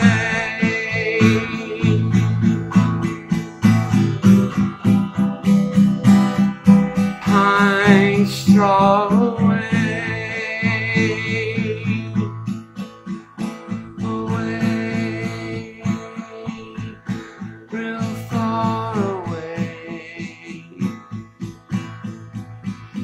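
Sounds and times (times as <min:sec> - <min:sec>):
man singing: 0:00.0 - 0:12.7, 0:13.7 - 0:21.2
acoustic guitar strumming: 0:00.0 - 0:23.0.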